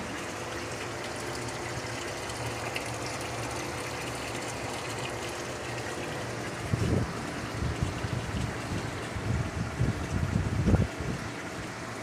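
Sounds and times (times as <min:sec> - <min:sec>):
water running into a tank: 0:00.0 - 0:12.0.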